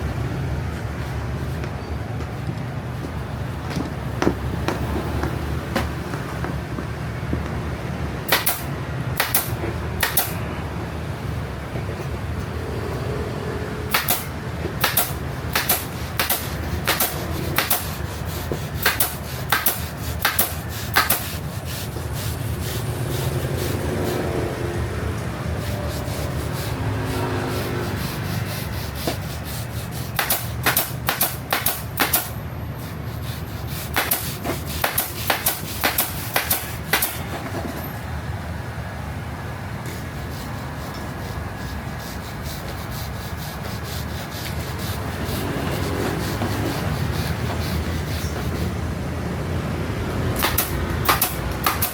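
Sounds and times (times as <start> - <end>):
fan hum: 0.0 - 51.9.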